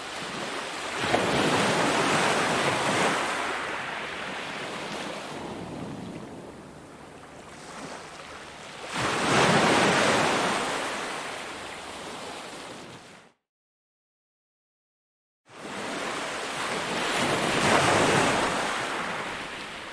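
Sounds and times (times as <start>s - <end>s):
waves washing on a beach: 0.0s - 13.2s, 15.5s - 19.9s.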